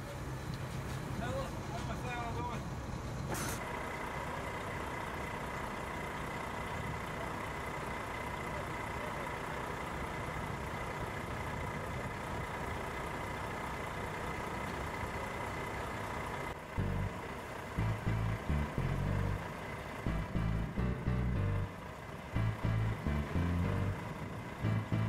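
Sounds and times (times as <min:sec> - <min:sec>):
diesel engine idling: 0:01.0 - 0:25.0.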